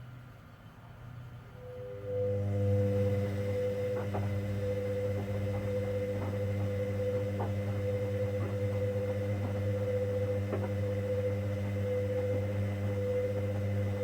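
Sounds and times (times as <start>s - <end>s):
washing machine motor humming: 1.6s - 14.0s.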